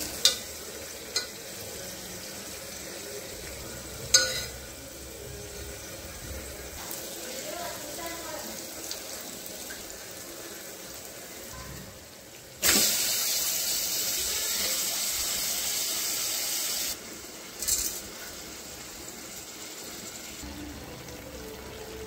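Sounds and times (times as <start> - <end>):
loud steady hiss of frying chicken: 0.0 - 22.0
oil and masala sizzling: 0.0 - 22.0.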